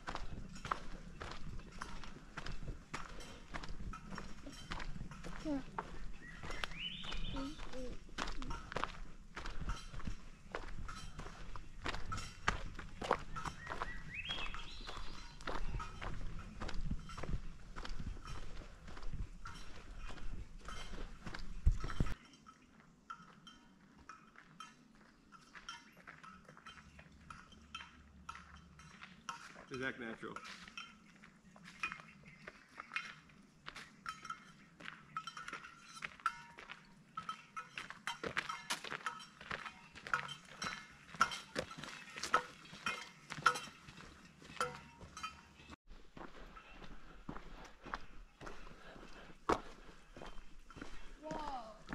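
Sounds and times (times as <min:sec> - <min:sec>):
gear clinking: 0:00.0 - 0:32.2, 0:33.9 - 0:45.8
footsteps on forest trail: 0:00.0 - 0:51.9.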